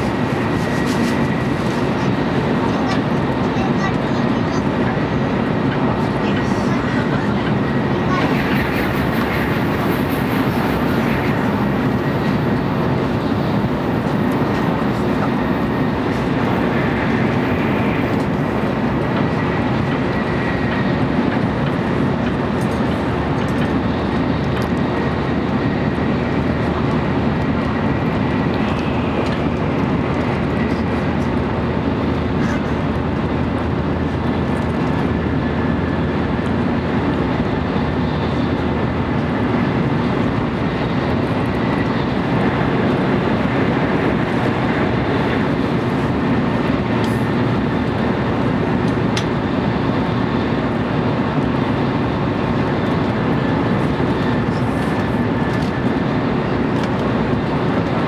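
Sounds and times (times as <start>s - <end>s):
passing train rush: 0.0s - 58.0s
train interior running noise: 0.0s - 58.0s.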